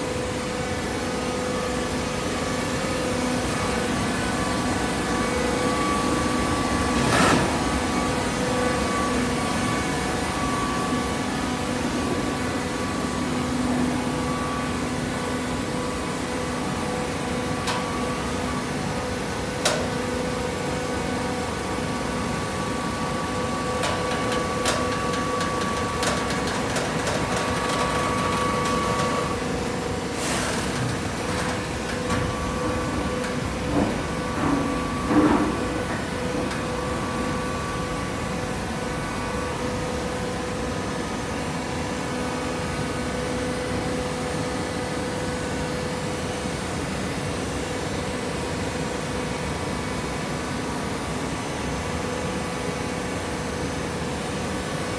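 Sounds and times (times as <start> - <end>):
baling press mechanical hum: 0.0 - 54.9.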